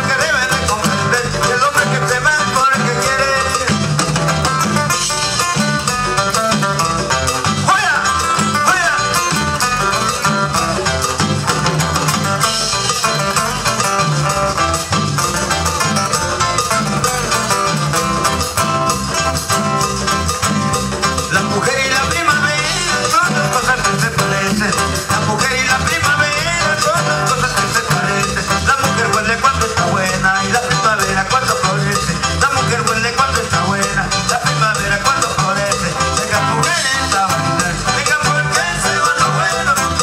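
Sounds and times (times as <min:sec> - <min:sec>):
upbeat latin dance music: 0:00.0 - 0:40.0.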